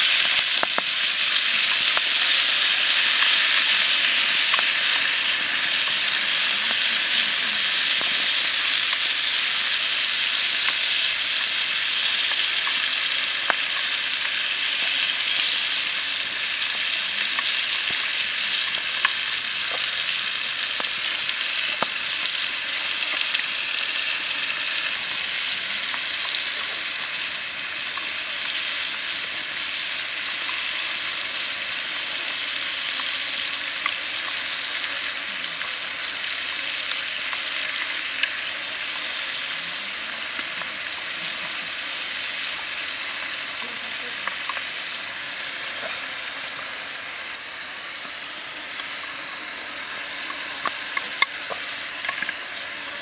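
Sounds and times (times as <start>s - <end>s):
food sizzling in a hot pan: 0.0s - 53.0s.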